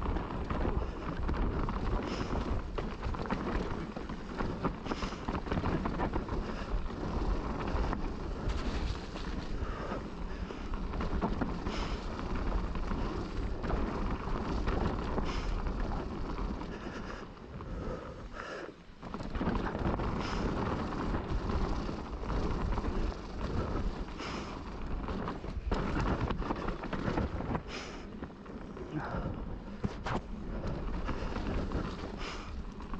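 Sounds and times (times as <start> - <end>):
mountain bike rumbling on dirt: 0.0 - 32.9.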